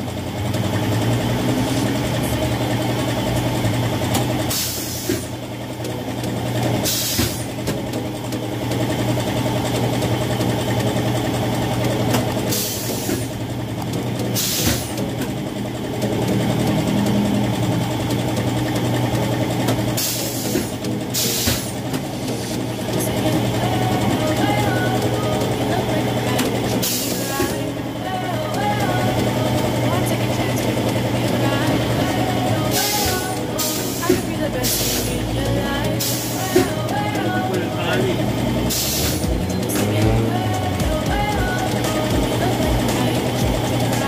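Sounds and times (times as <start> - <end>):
machine motor humming: 0.0 - 44.0.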